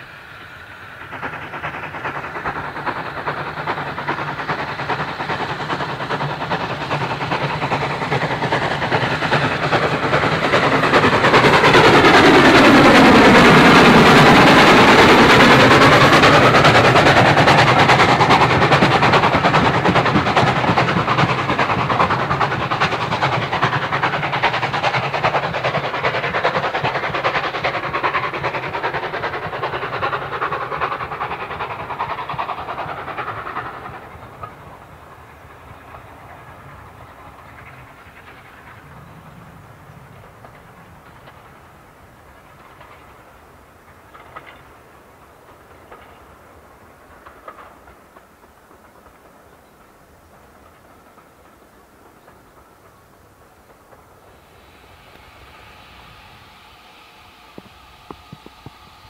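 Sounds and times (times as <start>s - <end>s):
steam train running past: 0.0s - 59.0s
wheels clattering on rail joints: 0.4s - 59.0s.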